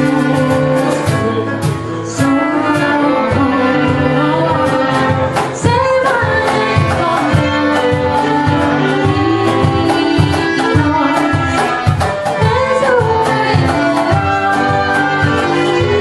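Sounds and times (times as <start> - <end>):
folk band playing: 0.0 - 16.0
hand drum beat: 0.0 - 16.0
person singing: 0.0 - 16.0.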